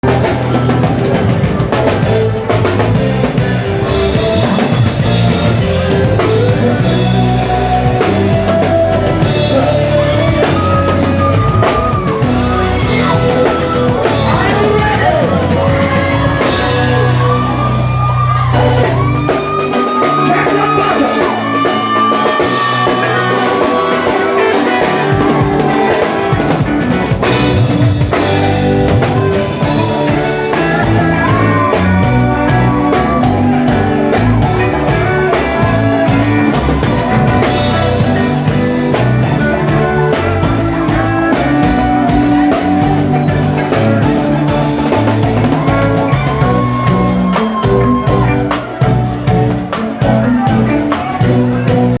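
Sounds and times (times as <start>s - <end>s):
bass guitar: 0.0s - 52.0s
drum kit: 0.0s - 52.0s
electric guitar: 0.0s - 52.0s.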